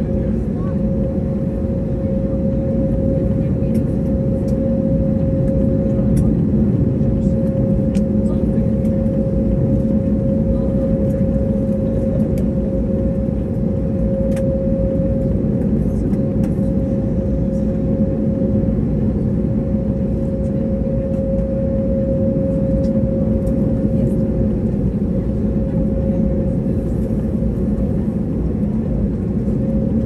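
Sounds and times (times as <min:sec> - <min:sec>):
aircraft cabin engine rumble: 0:00.0 - 0:30.0.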